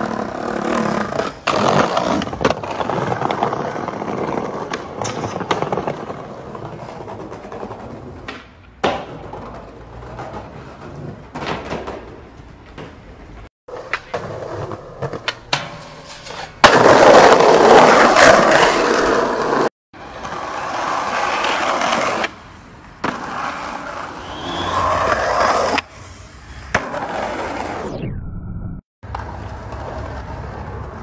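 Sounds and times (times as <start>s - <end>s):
skateboard popping and landing: 0.0s - 22.4s, 23.0s - 25.9s, 26.6s - 27.8s, 29.0s - 31.0s
skateboard wheels rolling on asphalt: 0.0s - 27.9s, 29.0s - 31.0s.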